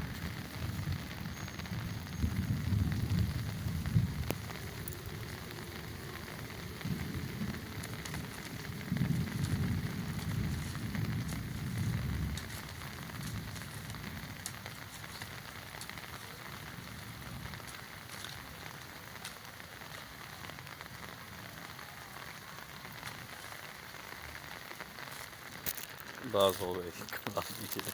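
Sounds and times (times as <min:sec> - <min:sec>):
rain pattering on hard surfaces: 0:00.0 - 0:27.9
raindrops ticking: 0:00.0 - 0:27.9.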